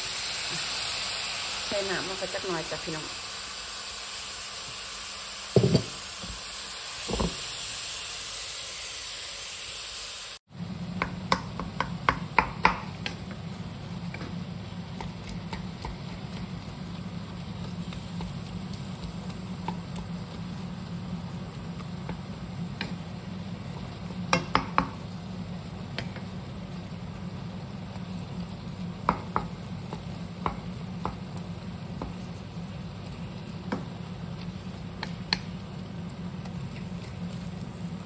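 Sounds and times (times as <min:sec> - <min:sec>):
meat sizzling in a pan: 0:00.0 - 0:38.0.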